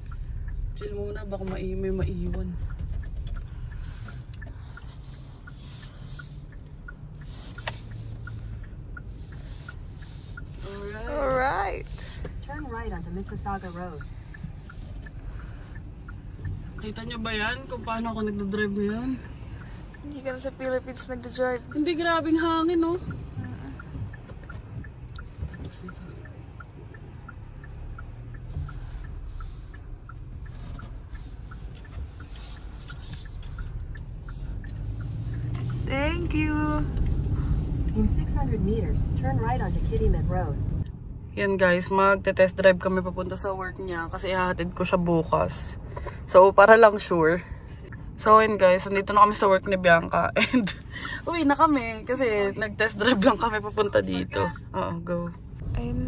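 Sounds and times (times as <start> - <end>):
car cabin rumble: 0.0 - 56.0
turn signal ticking: 0.0 - 56.0.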